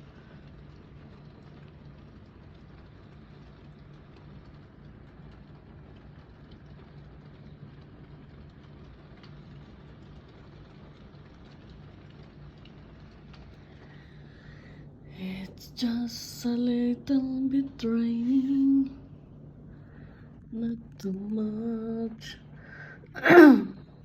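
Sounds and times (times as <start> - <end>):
light rain falling: 0.0 - 24.0
low hum: 0.0 - 24.0.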